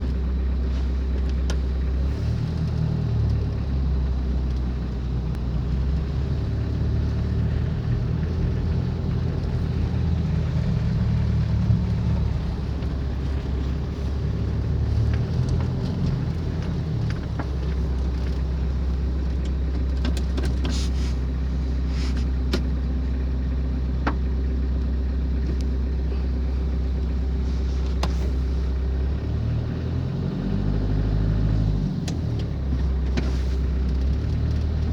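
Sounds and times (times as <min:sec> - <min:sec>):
drivetrain drone: 0:00.0 - 0:34.9.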